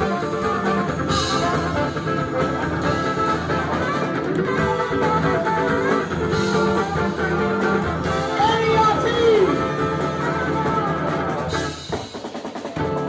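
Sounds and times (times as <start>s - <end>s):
bass: 0.0s - 13.0s
drum kit steady beat: 0.0s - 13.0s
guitar: 0.0s - 13.0s.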